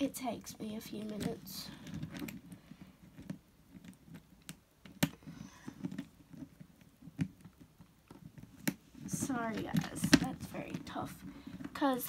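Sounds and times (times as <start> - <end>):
hands clicking and rustling: 0.0 - 12.0.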